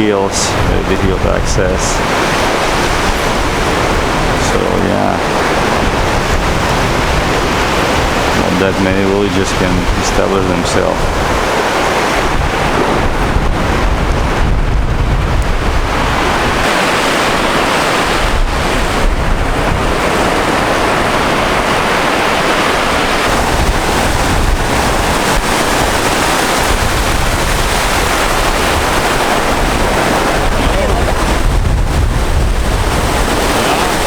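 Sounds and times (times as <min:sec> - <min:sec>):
sea waves washing on shore: 0:00.0 - 0:34.0
wind buffeting microphone: 0:00.0 - 0:34.0.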